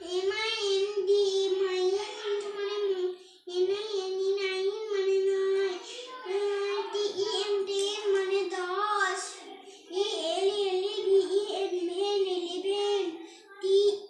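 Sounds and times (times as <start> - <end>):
child chanting a lesson: 0.0 - 14.0.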